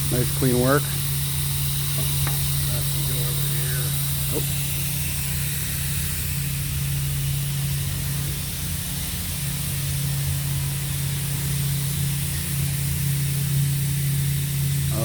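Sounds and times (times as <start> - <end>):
air hissing: 0.0 - 15.0
router table humming: 0.0 - 15.0.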